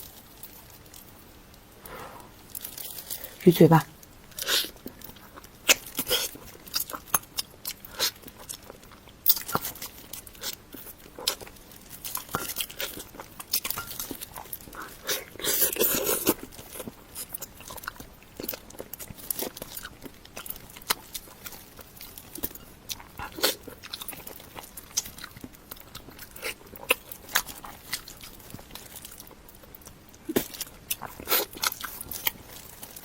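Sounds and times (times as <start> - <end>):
person chewing and crunching: 2.5 - 3.4, 4.0 - 33.0.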